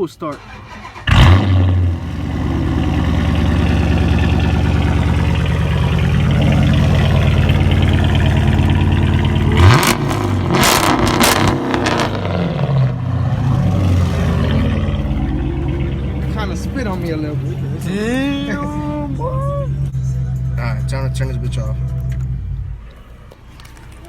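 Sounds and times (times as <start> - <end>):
car engine idling and revving: 0.3 - 24.0.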